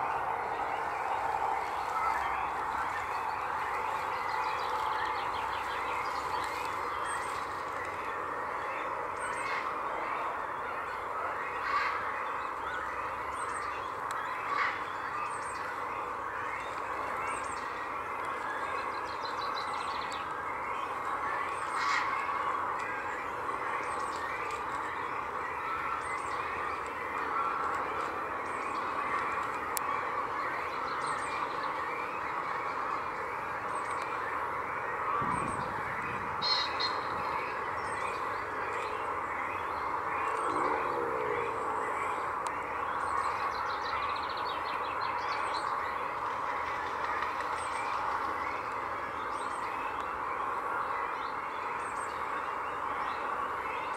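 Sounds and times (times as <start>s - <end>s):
chorus of waterfowl calling: 0.0s - 53.9s.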